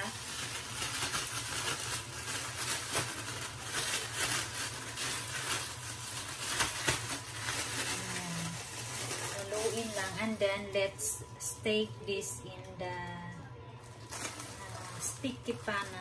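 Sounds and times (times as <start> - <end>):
plastic bag rustling and crinkling: 0.0 - 10.8, 13.7 - 16.0.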